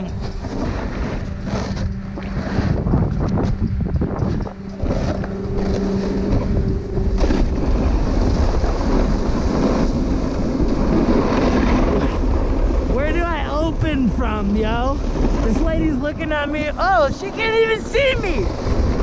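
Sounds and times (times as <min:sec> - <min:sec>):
snowboard scraping over snow: 0:00.0 - 0:19.0
wind on microphone: 0:00.0 - 0:19.0.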